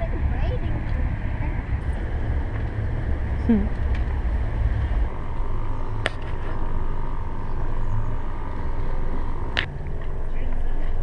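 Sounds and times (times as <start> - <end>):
diesel engines idling: 0.0 - 11.0.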